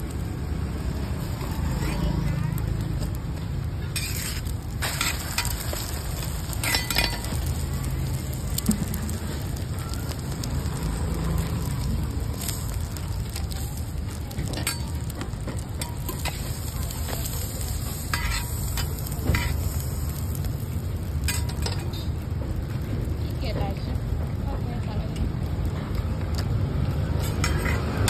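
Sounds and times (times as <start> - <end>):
roti sizzling on a griddle: 0.0 - 28.0.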